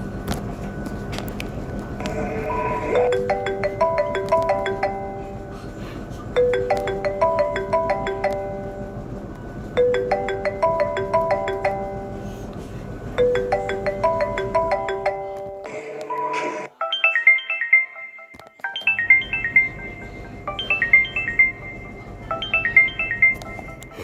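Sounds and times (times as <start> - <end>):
phone ringtone melody: 2.0 - 24.0.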